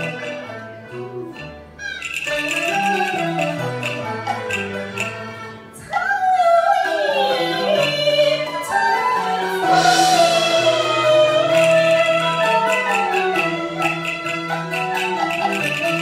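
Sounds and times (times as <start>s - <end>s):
opera instrumental accompaniment: 0.0s - 16.0s.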